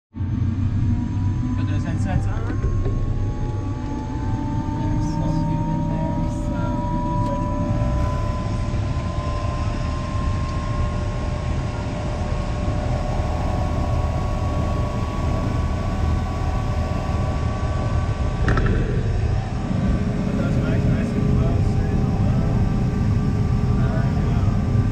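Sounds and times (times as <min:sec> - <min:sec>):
helicopter engine and rotor rumble: 0:00.2 - 0:24.9
thin whine rising in pitch: 0:00.2 - 0:24.9.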